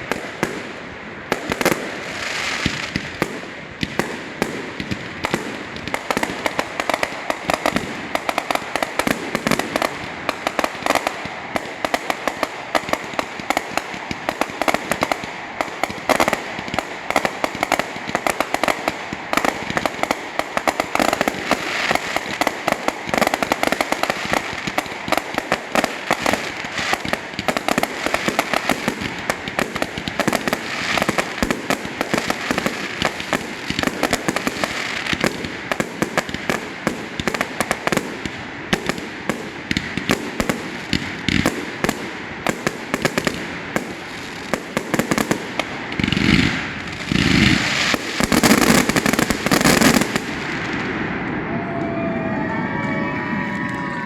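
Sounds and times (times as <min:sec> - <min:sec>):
fireworks crackling and popping: 0:00.0 - 0:51.5.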